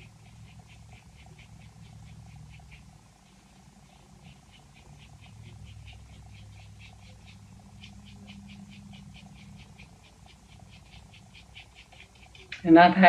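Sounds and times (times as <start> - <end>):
rhythmic high-pitched animal chirping: 0.0 - 12.6
faint low hum: 0.0 - 13.0.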